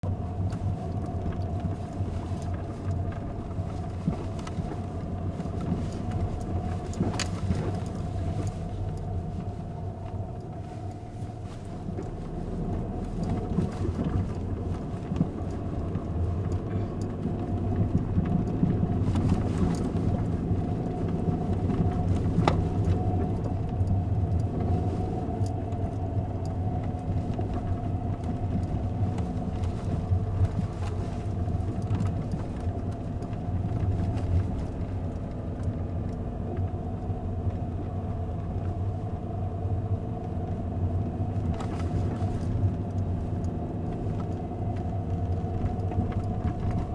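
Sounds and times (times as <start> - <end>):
car interior low rumble: 0.0 - 46.9.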